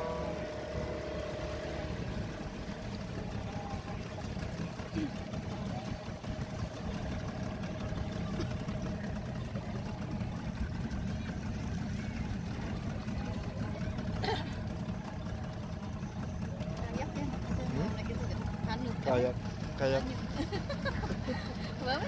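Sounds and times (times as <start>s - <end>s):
boat engine running: 0.0s - 22.0s
people's voices: 2.8s - 22.0s.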